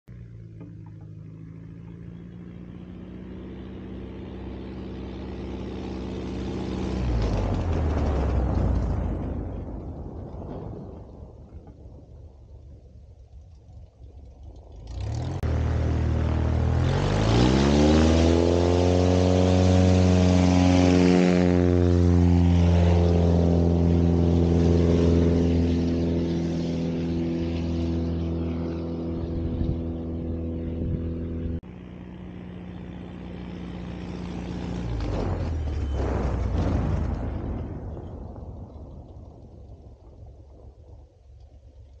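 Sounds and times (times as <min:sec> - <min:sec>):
plane engine and propeller drone: 0:00.1 - 0:42.0.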